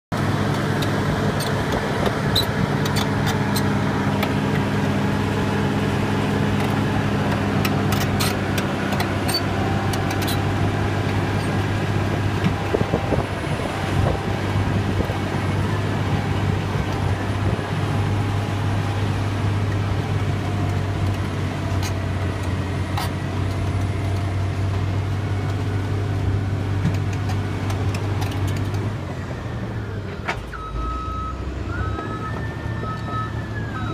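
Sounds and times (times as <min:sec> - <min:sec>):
diesel engine running steadily: 0:00.1 - 0:33.9.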